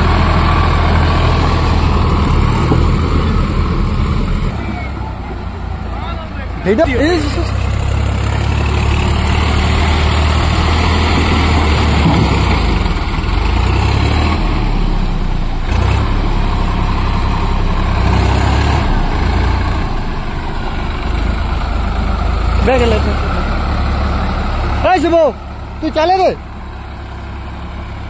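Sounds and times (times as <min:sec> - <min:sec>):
tractor diesel engine: 0:00.0 - 0:28.0.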